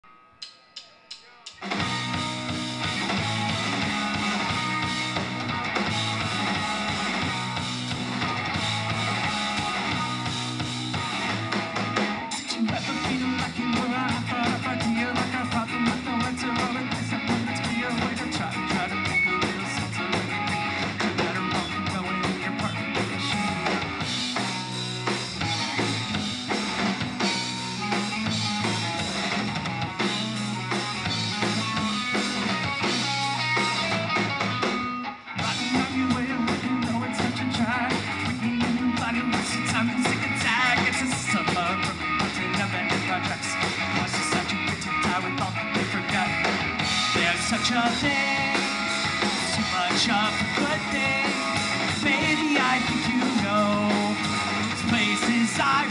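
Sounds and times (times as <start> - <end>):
drum kit: 0.0 - 55.9
electric guitar: 1.6 - 55.9
electric bass: 1.7 - 55.9.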